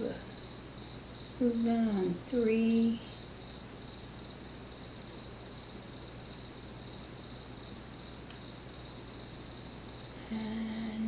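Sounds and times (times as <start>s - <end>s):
cricket chirping: 0.0s - 11.0s
low electrical hum: 0.0s - 11.0s.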